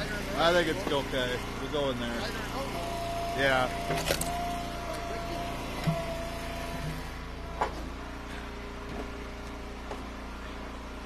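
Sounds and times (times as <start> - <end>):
wood splitter engine running: 0.0 - 11.0.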